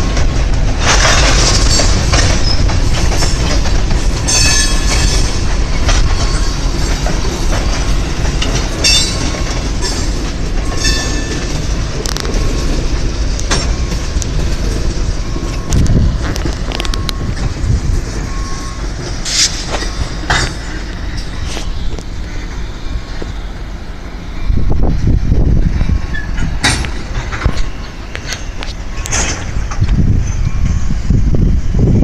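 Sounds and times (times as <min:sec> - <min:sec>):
train wheels clanking over rail joints: 0:00.0 - 0:24.2, 0:25.3 - 0:30.9
low rumble of rolling cars: 0:00.0 - 0:32.0
wheels squealing: 0:00.8 - 0:23.5, 0:25.6 - 0:32.0.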